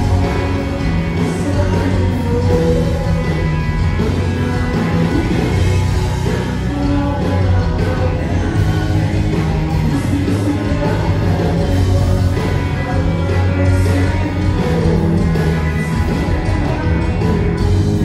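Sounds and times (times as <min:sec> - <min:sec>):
bass guitar: 0:00.0 - 0:18.0
distorted electric guitars: 0:00.0 - 0:18.0
drums: 0:00.0 - 0:18.0
man singing lead vocals: 0:00.0 - 0:18.0.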